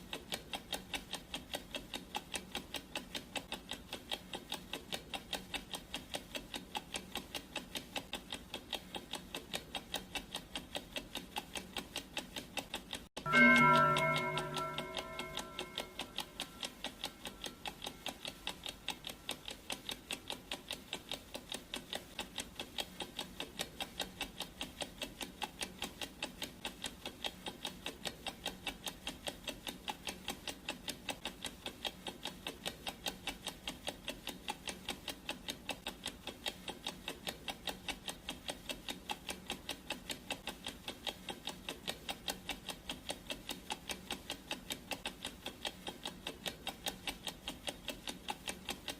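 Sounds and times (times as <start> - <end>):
clock ticking: 0.0 - 48.9.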